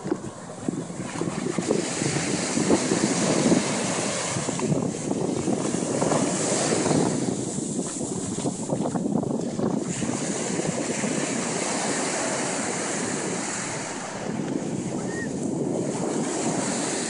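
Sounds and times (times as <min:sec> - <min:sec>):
surf breaking on sand: 0:00.0 - 0:17.0
wind buffeting microphone: 0:00.0 - 0:17.0.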